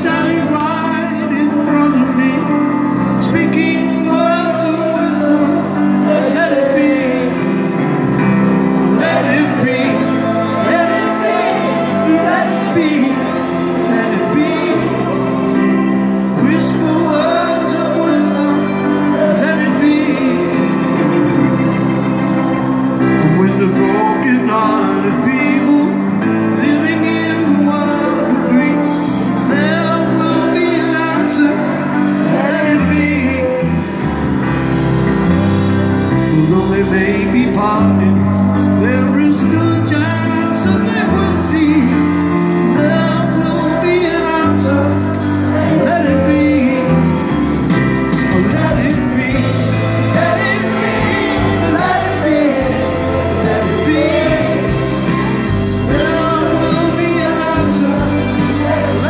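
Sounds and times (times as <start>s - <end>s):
grand piano: 0.0s - 59.0s
man singing a slow ballad: 0.0s - 59.0s.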